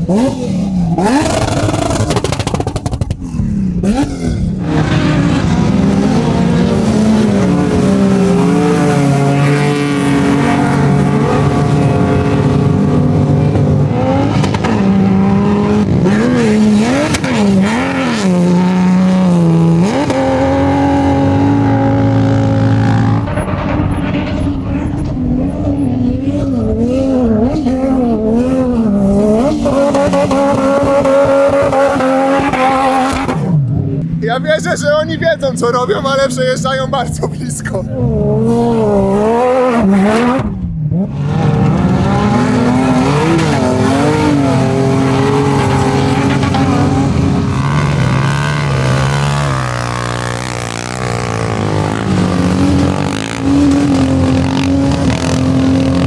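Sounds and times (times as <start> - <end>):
off-road engines revving hard: 0.0 - 56.0.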